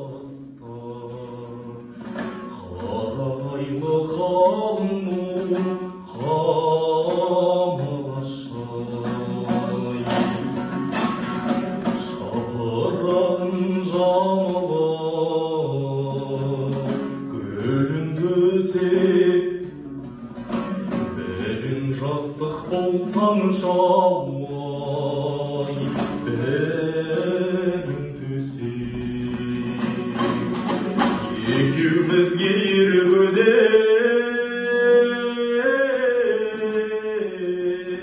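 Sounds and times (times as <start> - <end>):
dombra strumming: 0.0 - 38.0
man singing: 0.0 - 38.0.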